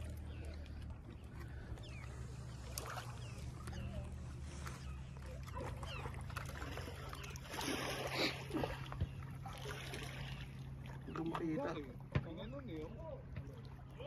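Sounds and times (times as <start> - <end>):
lakeshore ambience: 0.0 - 14.0.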